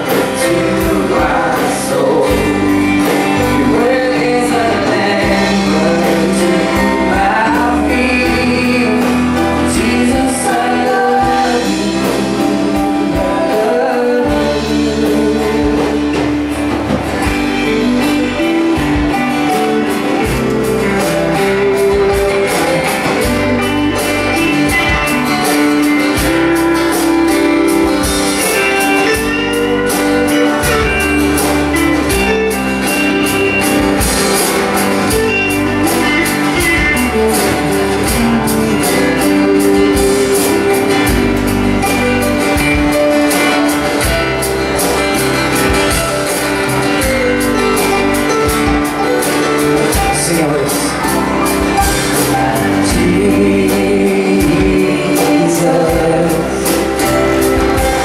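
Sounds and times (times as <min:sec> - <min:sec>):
live band playing: 0:00.0 - 0:58.0.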